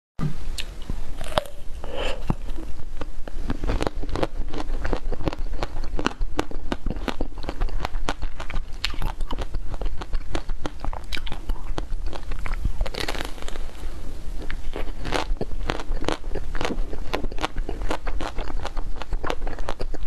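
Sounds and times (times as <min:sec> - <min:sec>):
chewing frozen ice cream bar: 0:02.3 - 0:13.7, 0:14.4 - 0:20.0.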